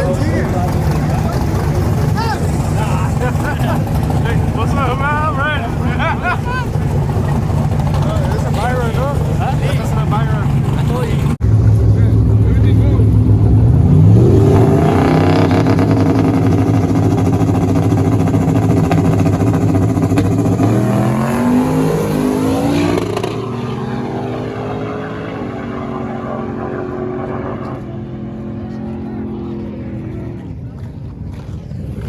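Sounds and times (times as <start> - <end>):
truck engine accelerating: 0.0 - 32.0.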